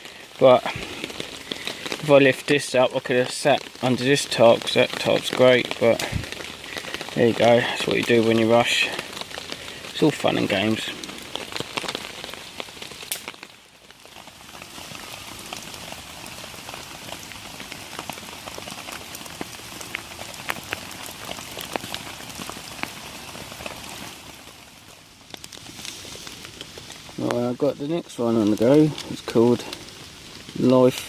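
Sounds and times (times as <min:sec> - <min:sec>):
heavy rain on a tarp: 0:00.0 - 0:31.0.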